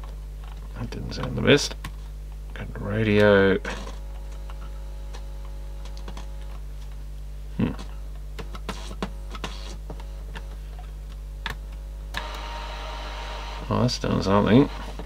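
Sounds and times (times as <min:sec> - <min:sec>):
electrical hum and buzz: 0:00.0 - 0:15.0.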